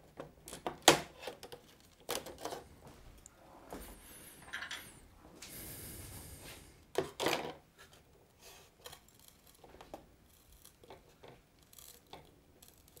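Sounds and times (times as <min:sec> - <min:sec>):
faint scraping handling noises: 0:01.1 - 0:13.0.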